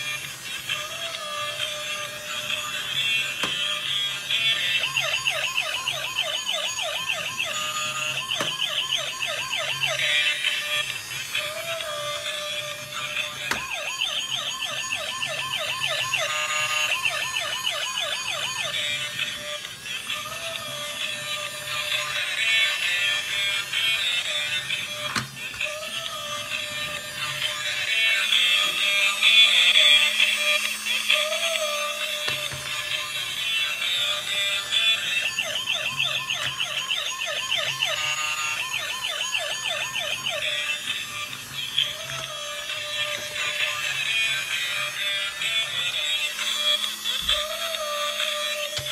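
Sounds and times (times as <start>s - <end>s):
toy car electronic siren: 0.0s - 48.9s.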